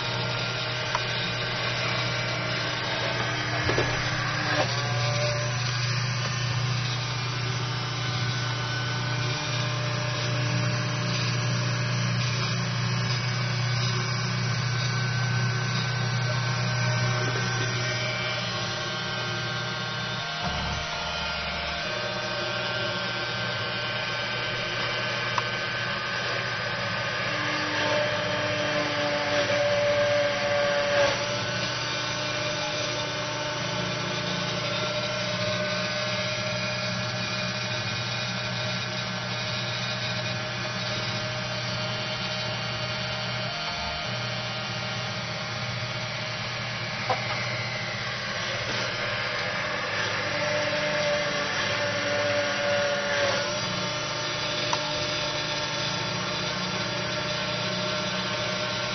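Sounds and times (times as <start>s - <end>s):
drilling machine motor whine: 0.0s - 58.9s.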